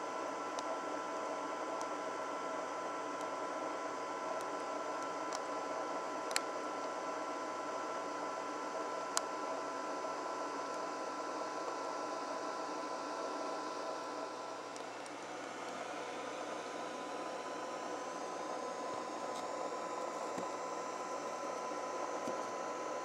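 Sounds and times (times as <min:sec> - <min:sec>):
faint high whine: 0:00.0 - 0:23.0.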